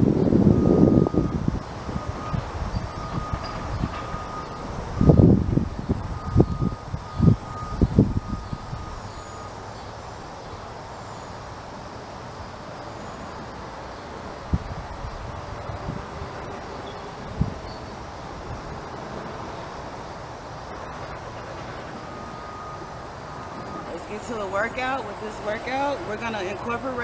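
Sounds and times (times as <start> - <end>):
high-pitched whine: 0.0 - 27.0
outdoor background hum: 0.0 - 27.0.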